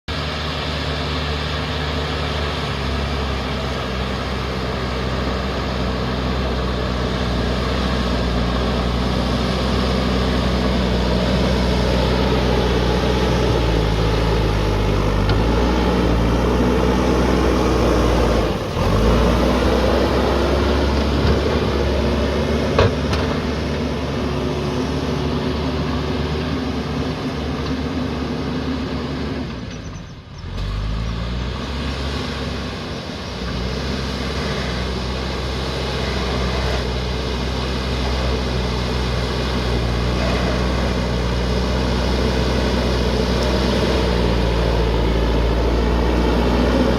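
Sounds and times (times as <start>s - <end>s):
diesel engine running: 0.1s - 46.9s.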